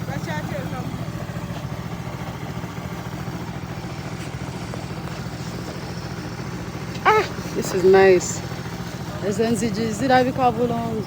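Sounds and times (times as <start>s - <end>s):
small engine throbbing: 0.0s - 11.0s.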